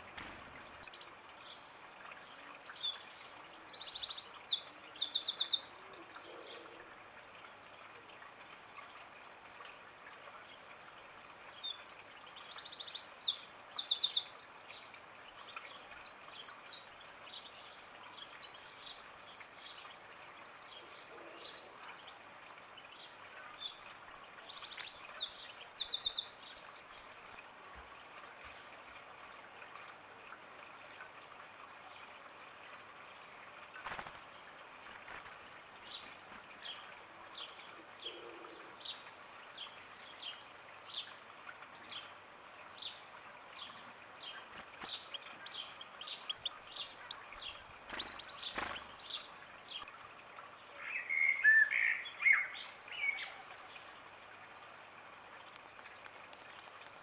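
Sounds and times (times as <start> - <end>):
songbirds trilling: 0.0 - 7.5, 10.2 - 27.4, 31.9 - 54.7
faint steady hiss: 0.0 - 57.0.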